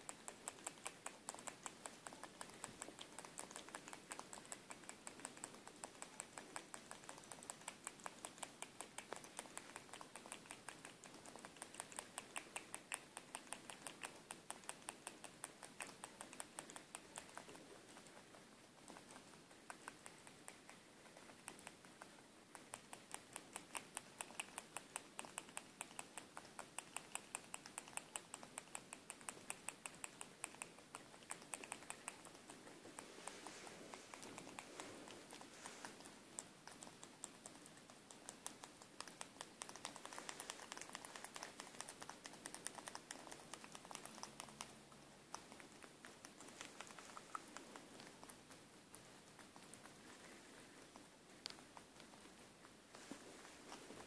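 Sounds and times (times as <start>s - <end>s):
animal licking and chewing: 0.0s - 54.0s.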